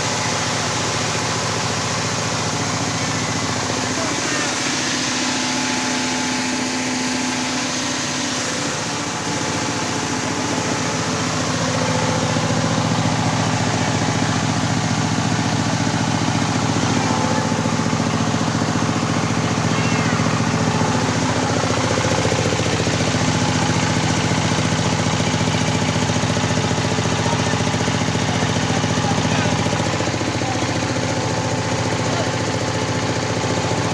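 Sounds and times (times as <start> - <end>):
machine running with fast pulse: 0.0 - 33.9.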